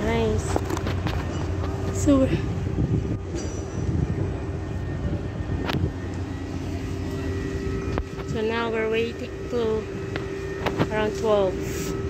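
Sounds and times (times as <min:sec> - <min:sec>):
engine machinery rumble: 0:00.0 - 0:12.0
faint constant hum: 0:00.0 - 0:12.0.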